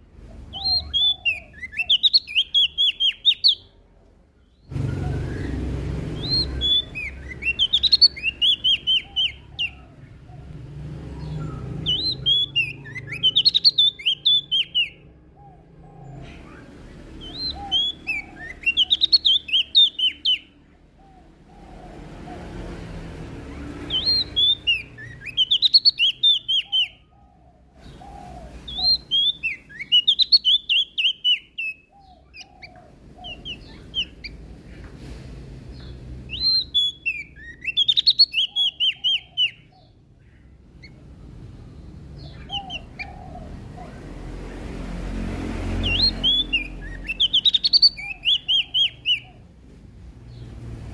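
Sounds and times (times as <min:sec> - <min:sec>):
leaf warbler singing: 0:00.0 - 0:50.9.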